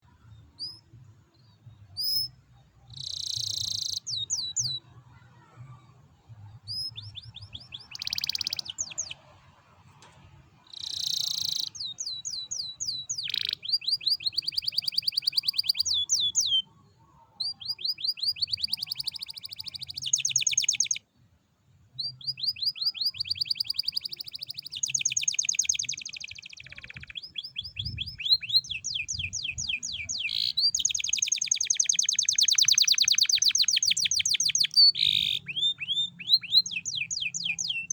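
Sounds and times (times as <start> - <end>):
canary singing in trills: 0.0 - 4.8, 6.6 - 9.4, 10.6 - 21.0, 22.0 - 37.9.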